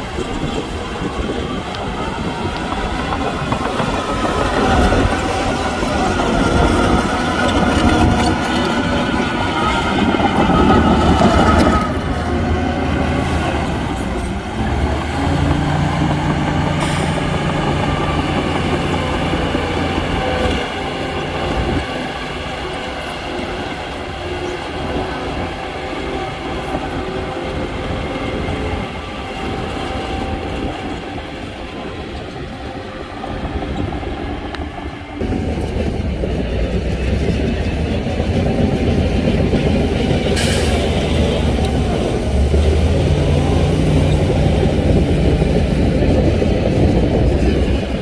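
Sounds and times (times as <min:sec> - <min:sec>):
diesel machinery rumbling: 0:00.0 - 0:48.0.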